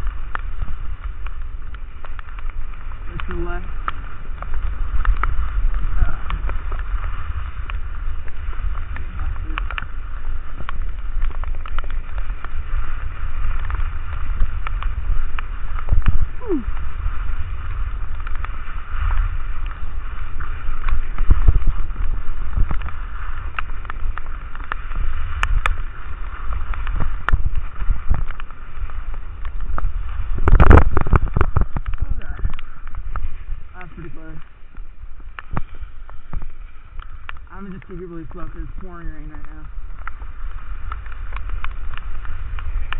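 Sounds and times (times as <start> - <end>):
skis scraping on wet snow: 0.0 - 42.9
wind buffeting microphone: 0.0 - 42.9.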